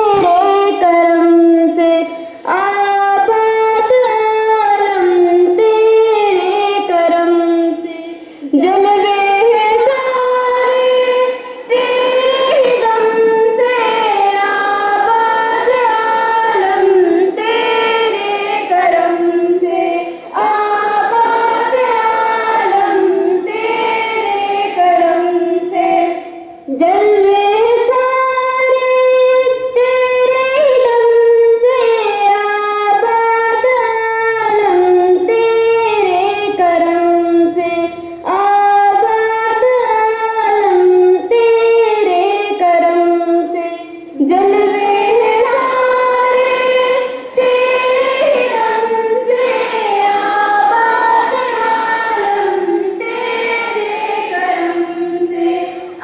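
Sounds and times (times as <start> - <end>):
voices singing in unison: 0.0 - 56.0.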